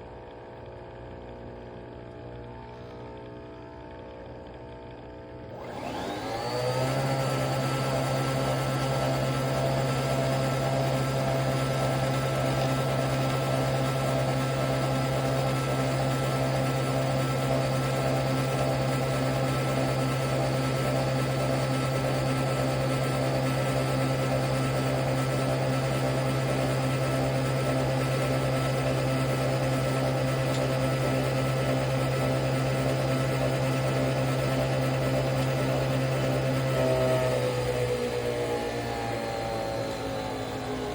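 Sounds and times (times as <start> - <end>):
coffee machine motor whirring: 0.0 - 40.9.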